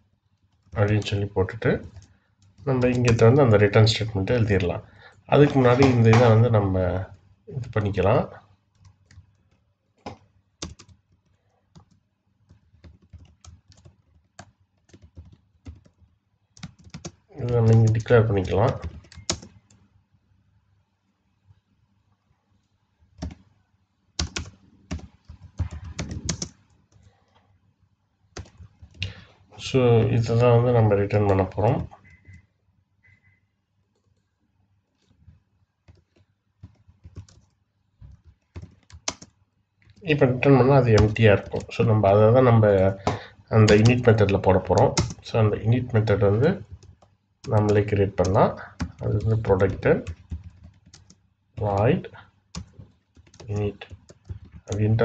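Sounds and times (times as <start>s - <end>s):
computer keyboard typing: 0.4s - 4.4s, 5.4s - 6.5s, 7.6s - 19.9s, 23.1s - 23.5s, 24.2s - 27.1s, 28.3s - 29.3s, 30.2s - 33.4s, 35.0s - 55.0s.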